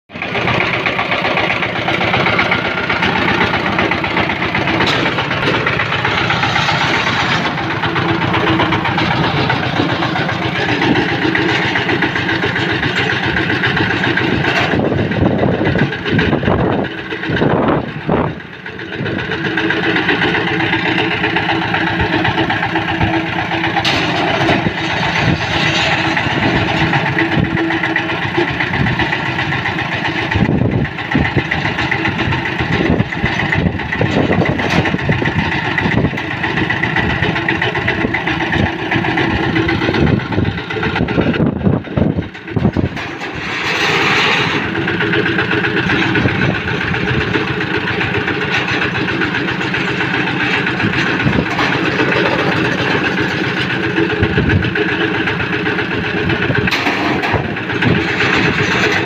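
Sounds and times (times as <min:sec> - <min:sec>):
diesel engine running: 0:00.1 - 0:59.0.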